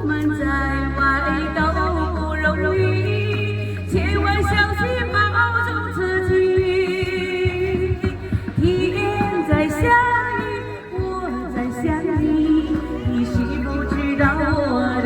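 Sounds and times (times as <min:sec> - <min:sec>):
ballad music: 0:00.0 - 0:15.0.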